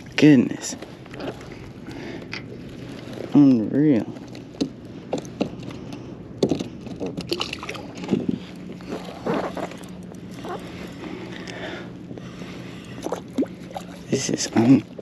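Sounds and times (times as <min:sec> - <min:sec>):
faint water: 0:00.0 - 0:15.0
steady low hum: 0:00.0 - 0:15.0.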